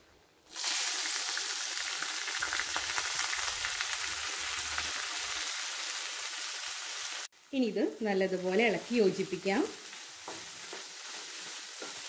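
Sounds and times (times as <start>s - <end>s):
food sizzling in hot oil: 0.5s - 12.0s.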